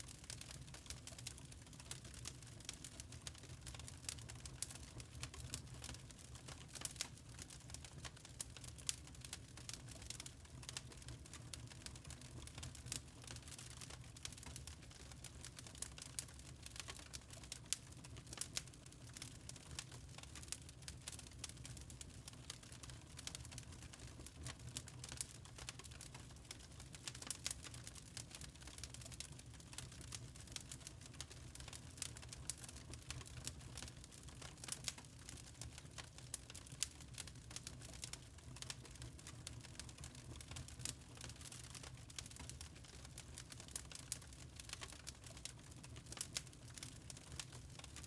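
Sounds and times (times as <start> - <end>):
burning charcoal crackling: 0.1 - 48.0.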